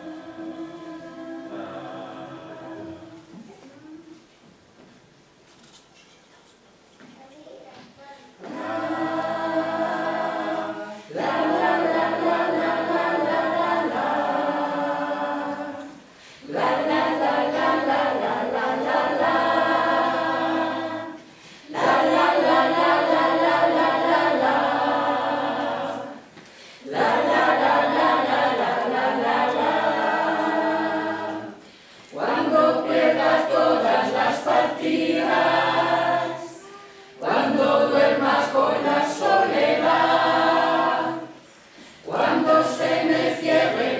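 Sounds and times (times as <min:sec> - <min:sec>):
group singing a cappella: 0:00.0 - 0:03.5, 0:08.4 - 0:43.9.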